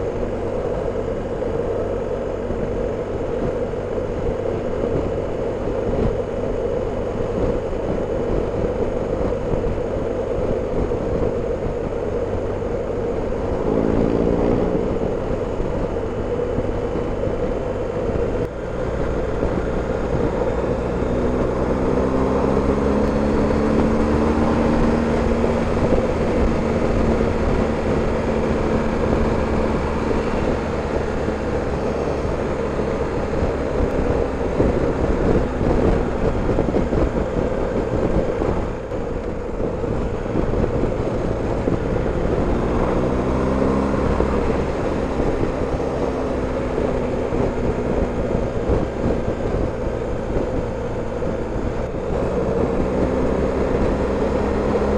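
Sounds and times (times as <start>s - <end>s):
motorcycle engine running: 0.0s - 54.9s
wind and road noise: 0.0s - 54.9s.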